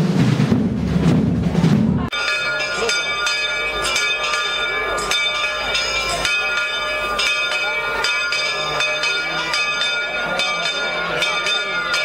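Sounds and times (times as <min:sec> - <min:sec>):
crowd voices: 0:01.5 - 0:12.0
church bells ringing: 0:02.1 - 0:12.0.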